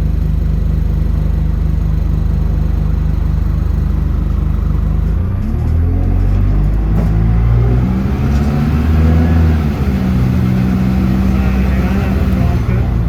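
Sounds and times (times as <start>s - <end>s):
bus engine pulling under load: 0.0s - 13.0s.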